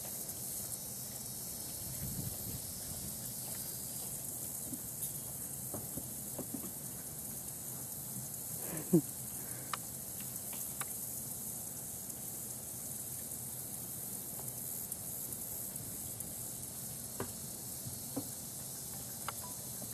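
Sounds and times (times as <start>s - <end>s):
insect chorus hissing: 0.0s - 19.9s.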